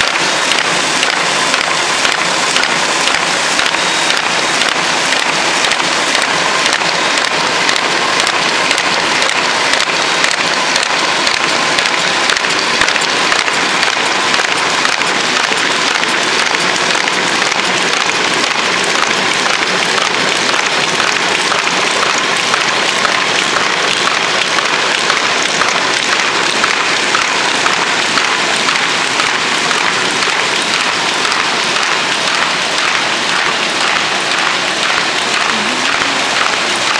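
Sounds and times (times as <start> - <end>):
paper folder machine clattering: 0.0 - 36.9.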